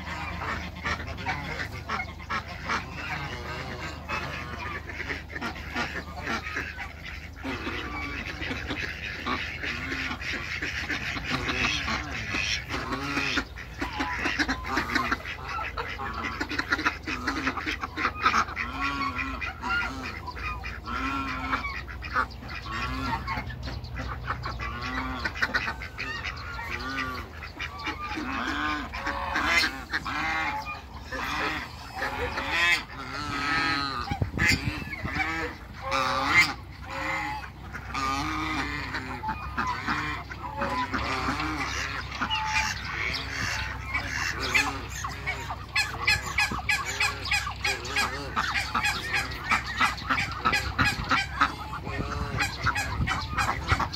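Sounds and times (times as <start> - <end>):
ducks quacking: 0.0 - 53.9
geese honking: 0.0 - 53.9.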